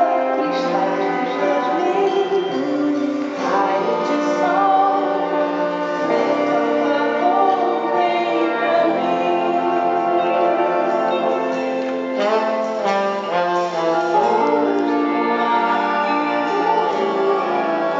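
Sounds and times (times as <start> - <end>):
live band music: 0.0 - 17.9
woman singing: 0.0 - 17.9.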